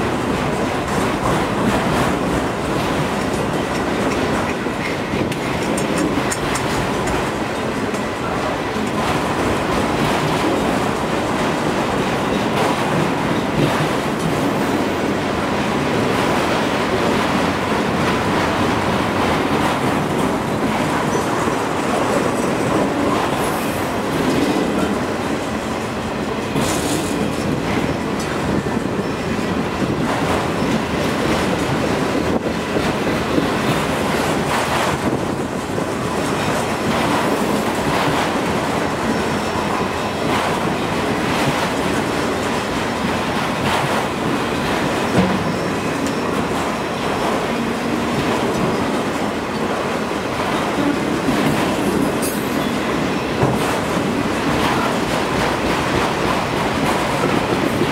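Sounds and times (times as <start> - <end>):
freight train cars rolling on rails: 0.0 - 57.9
wind noise on microphone: 0.0 - 57.9.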